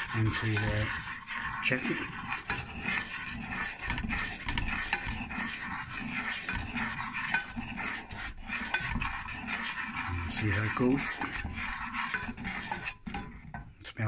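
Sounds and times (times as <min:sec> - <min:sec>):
spoon scraping a pan: 0:00.0 - 0:14.0.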